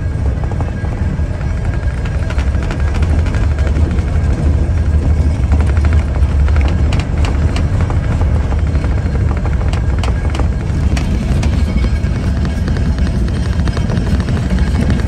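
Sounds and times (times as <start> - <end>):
deep rumble: 0.0 - 15.0
steam locomotive chuffing: 0.0 - 15.0.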